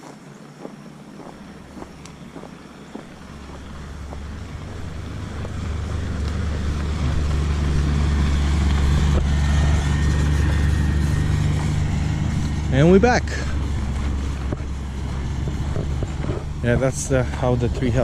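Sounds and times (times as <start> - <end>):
footsteps: 0.0 - 18.0
vehicle engine rumbling: 0.0 - 18.0.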